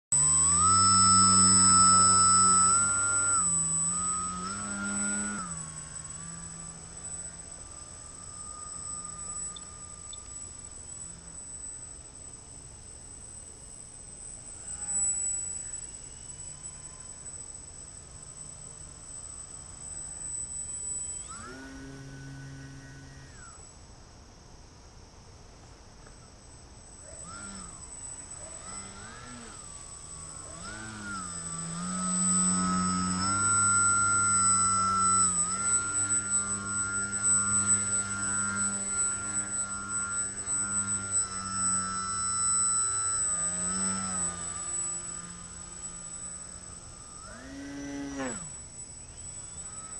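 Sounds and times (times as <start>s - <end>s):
electric motor whine: 0.0s - 49.9s.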